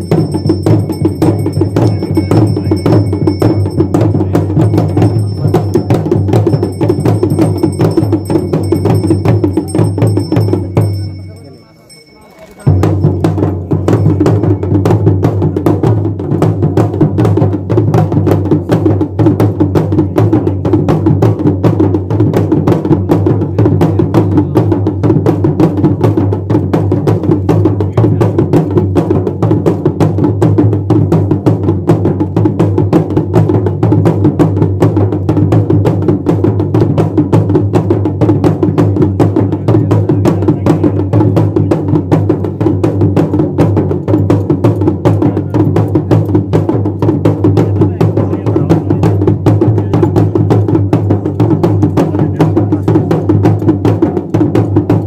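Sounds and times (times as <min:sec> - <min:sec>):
drums playing fast rhythm: 0:00.0 - 0:55.0.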